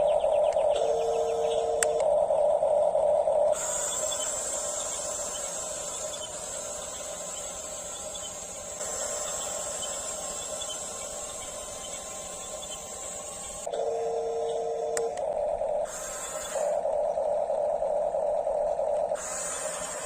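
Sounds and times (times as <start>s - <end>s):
electric motors whining: 0.0s - 20.0s.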